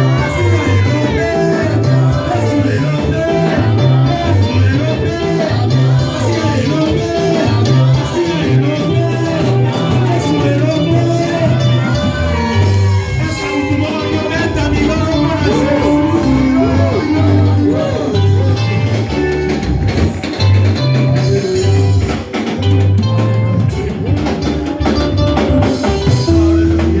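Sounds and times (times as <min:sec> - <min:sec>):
bass line: 0:00.0 - 0:27.0
drum kit beat: 0:00.0 - 0:27.0
guitar melody: 0:00.0 - 0:27.0.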